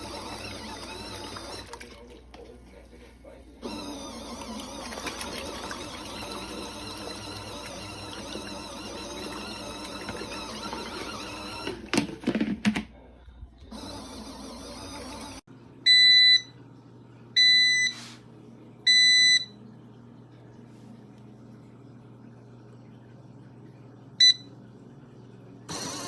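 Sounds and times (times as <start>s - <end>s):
washing machine motor whir: 0.0s - 26.0s.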